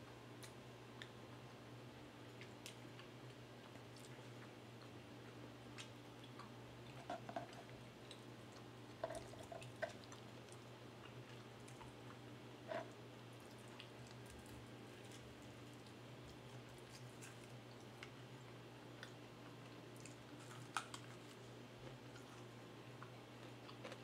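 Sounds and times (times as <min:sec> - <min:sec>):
low steady hum: 0:00.0 - 0:24.0
person chewing food: 0:02.4 - 0:24.0.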